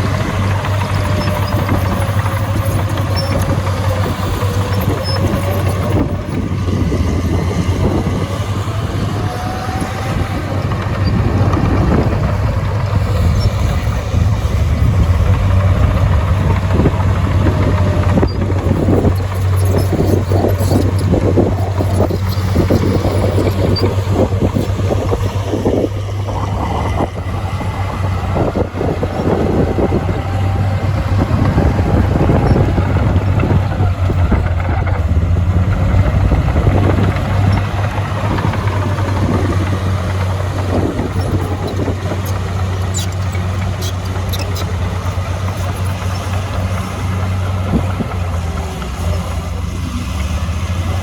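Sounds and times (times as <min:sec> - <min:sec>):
diesel machinery engine hum: 0:00.0 - 0:51.0
rapid clanking and rattling: 0:09.8 - 0:51.0.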